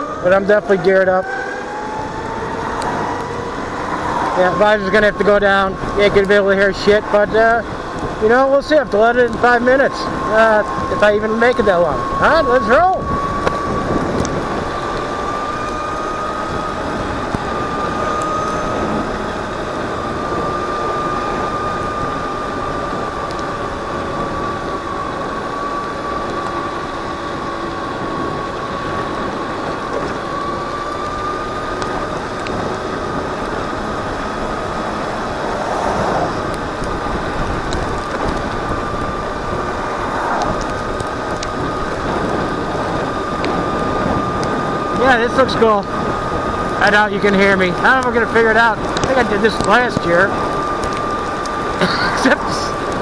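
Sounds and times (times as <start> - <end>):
electric motor whine: 0.0 - 53.0
wind and road noise: 0.0 - 53.0.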